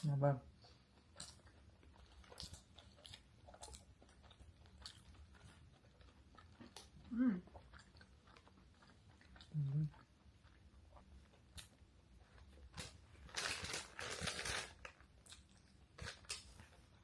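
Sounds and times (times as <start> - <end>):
person chewing: 0.5 - 17.0.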